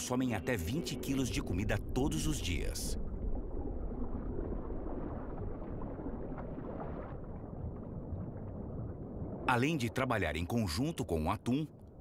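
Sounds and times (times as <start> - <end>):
underwater rushing water: 0.0 - 11.2.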